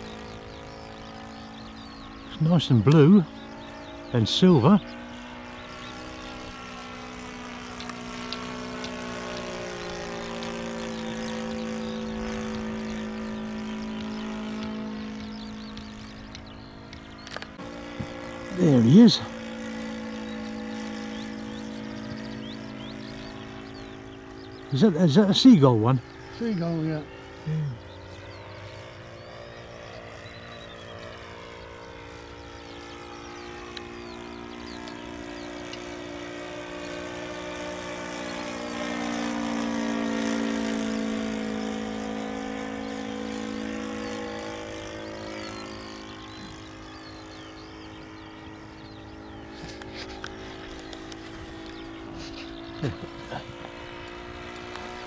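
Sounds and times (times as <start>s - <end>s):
model airplane engine: 0.0s - 55.0s.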